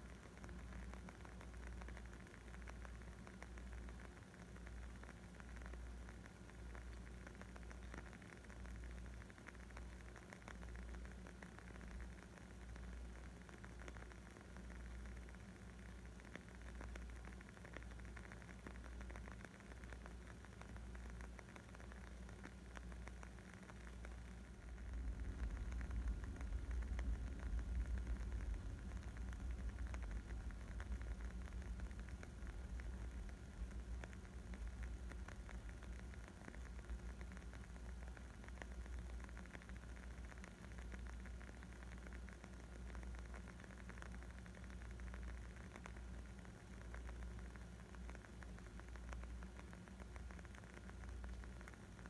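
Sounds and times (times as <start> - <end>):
low fire rumble: 0.0 - 52.0
wood fire crackling: 0.1 - 52.0.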